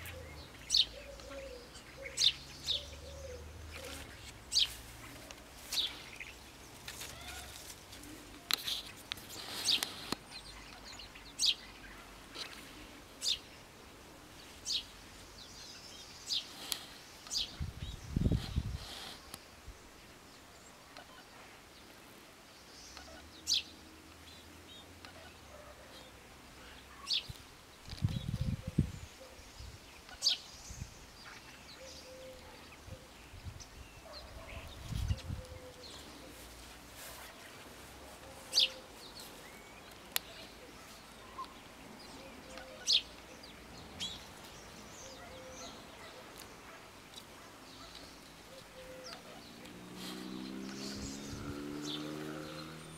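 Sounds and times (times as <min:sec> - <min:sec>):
bird chirping: 0:00.0 - 0:13.7, 0:22.6 - 0:52.9.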